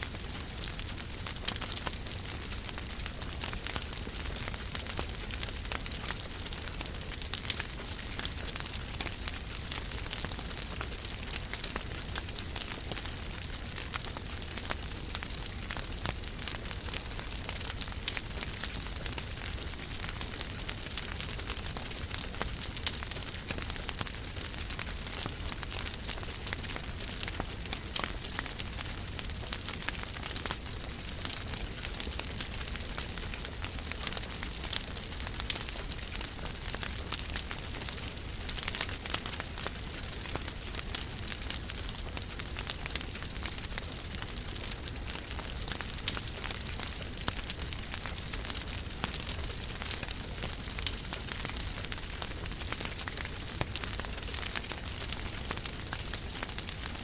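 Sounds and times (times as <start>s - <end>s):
wood fire crackling in a fireplace: 0.0s - 57.0s.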